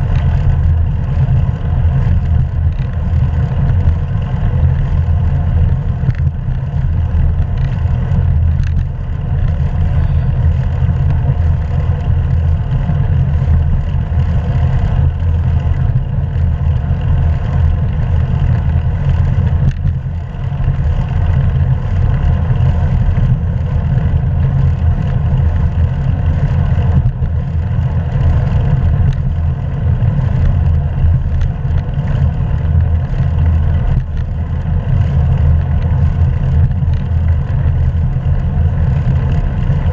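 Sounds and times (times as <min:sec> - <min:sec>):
bicycle road noise: 0:00.0 - 0:39.9.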